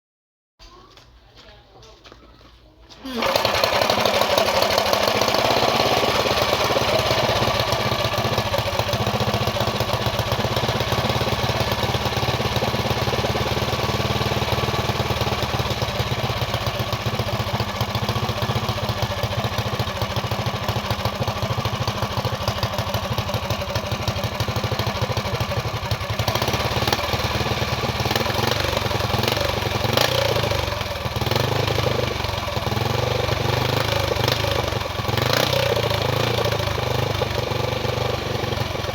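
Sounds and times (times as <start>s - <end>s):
motorcycle engine idling: 3.1s - 38.9s.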